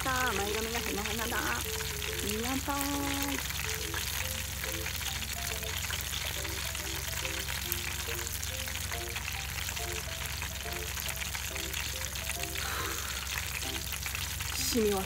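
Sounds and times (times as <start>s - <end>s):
fish frying in oil: 0.0s - 15.0s
soft background music: 0.0s - 15.0s.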